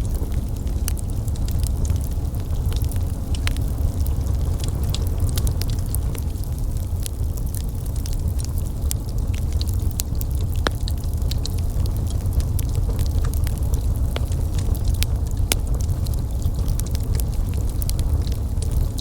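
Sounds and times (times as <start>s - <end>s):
low rumble of burning: 0.0s - 19.0s
wood fire crackling and popping: 0.0s - 19.0s.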